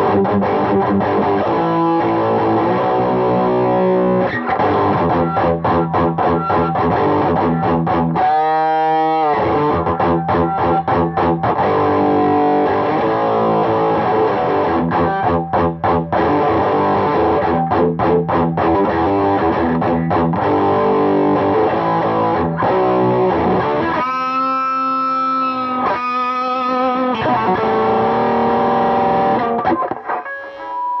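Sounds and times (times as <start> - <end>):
distorted electric guitar chords: 0.0 - 31.0.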